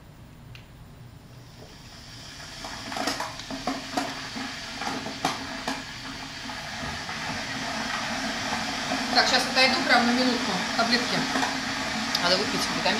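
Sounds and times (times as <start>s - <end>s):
kettle heating water: 1.3s - 12.9s.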